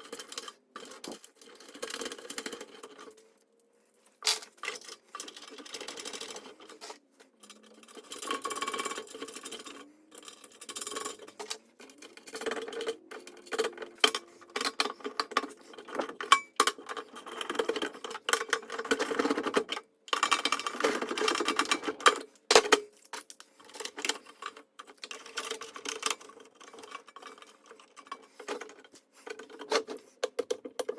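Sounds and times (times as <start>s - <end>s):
small hard objects clicking and rattling: 0.0s - 3.3s, 4.2s - 30.9s.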